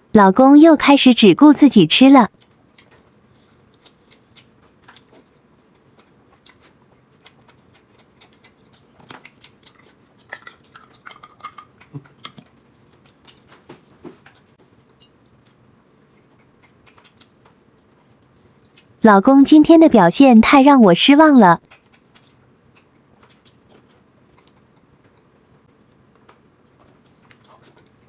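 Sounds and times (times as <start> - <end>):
chewing: 2.4 - 19.0, 21.6 - 28.0.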